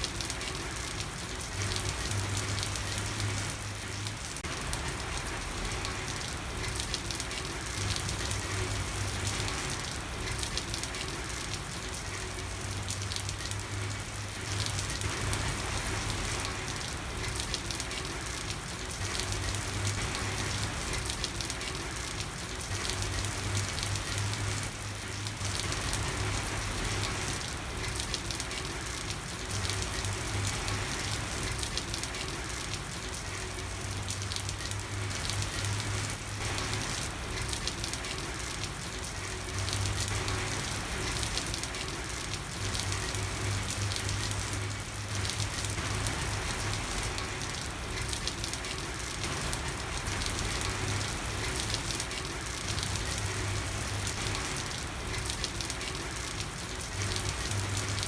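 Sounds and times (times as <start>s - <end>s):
rain pattering on street: 0.0s - 58.0s.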